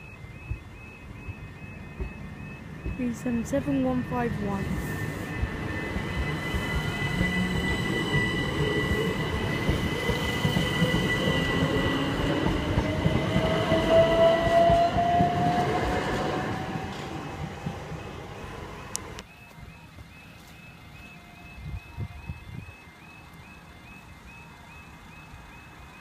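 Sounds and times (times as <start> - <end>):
electric train passing: 0.0 - 26.0
train motor whine: 0.0 - 26.0
wheels running on rails: 0.0 - 26.0.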